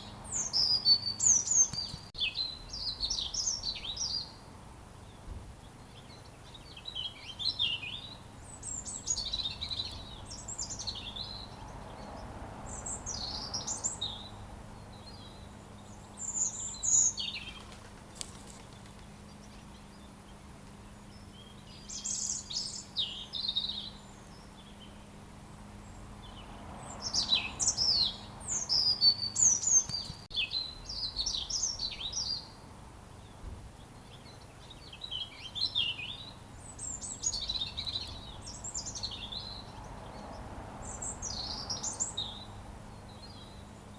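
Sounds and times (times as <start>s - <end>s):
robin singing: 0.0s - 4.4s, 5.0s - 17.6s, 18.5s - 43.9s.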